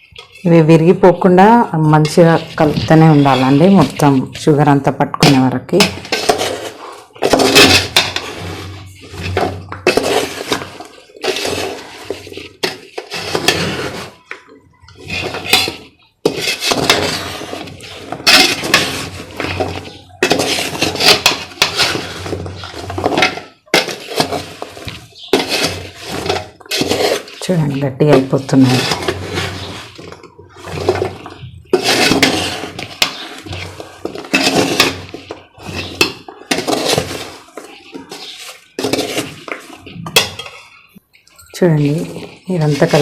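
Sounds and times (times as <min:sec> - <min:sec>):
fried shells scraping and rattling in pan: 0:00.0 - 0:41.0, 0:41.6 - 0:43.0.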